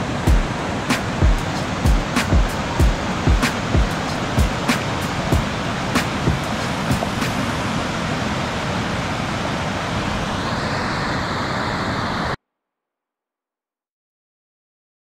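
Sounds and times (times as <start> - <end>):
river rapid rushing: 0.0 - 12.4.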